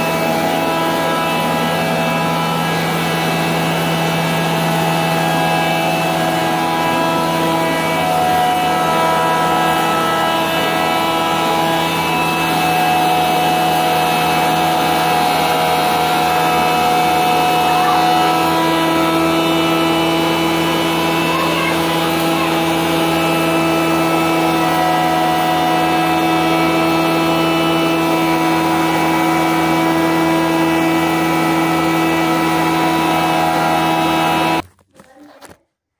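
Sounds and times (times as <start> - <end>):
flour mill motor humming: 0.0 - 34.6.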